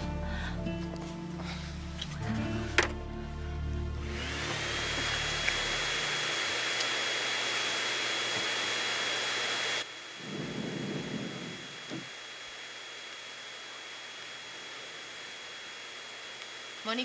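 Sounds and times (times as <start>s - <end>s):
vacuum cleaner motor whining: 1.4s - 17.0s.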